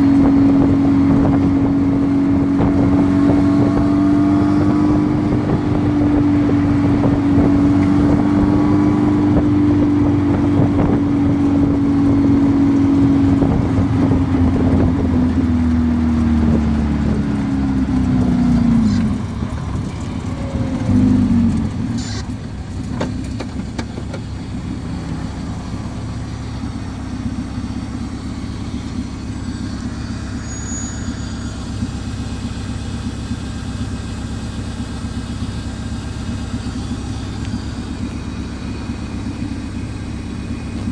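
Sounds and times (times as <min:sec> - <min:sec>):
buggy engine revving: 0:00.0 - 0:40.9.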